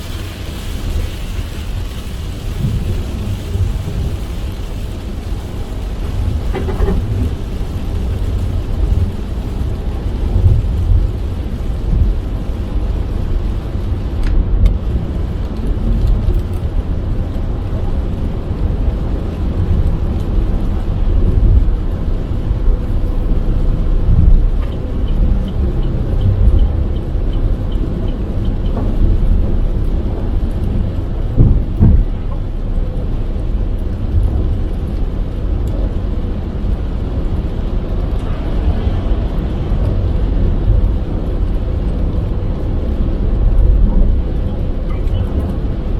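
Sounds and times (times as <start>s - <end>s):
car tyres and engine rumble: 0.0s - 45.9s
heavy rain: 0.0s - 45.9s.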